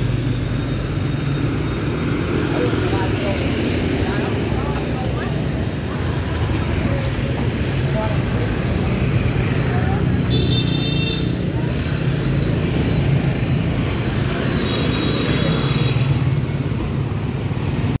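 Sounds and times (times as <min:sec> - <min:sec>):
street traffic passing: 0:00.0 - 0:18.0.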